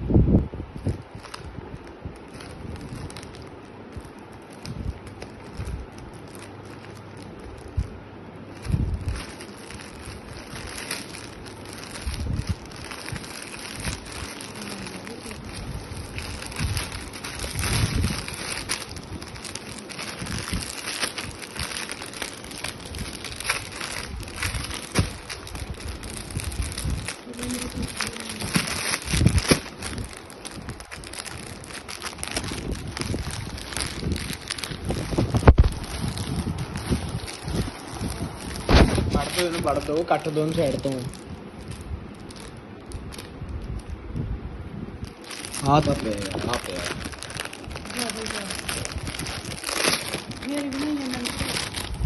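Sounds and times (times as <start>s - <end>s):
plastic packaging crinkling: 0.6s - 44.0s, 45.0s - 52.0s.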